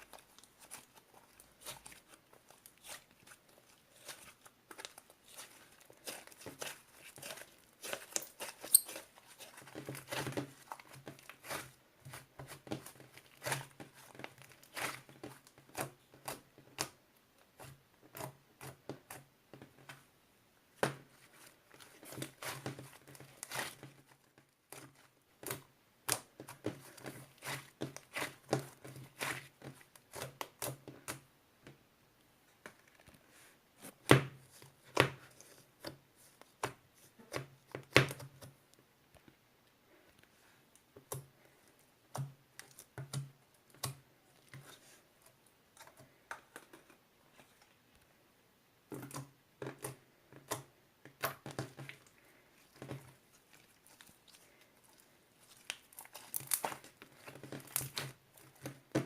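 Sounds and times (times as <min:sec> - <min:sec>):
crinkling and rustling handling: 0:00.0 - 0:20.1, 0:20.7 - 0:31.8, 0:32.4 - 0:48.2, 0:48.8 - 0:59.0.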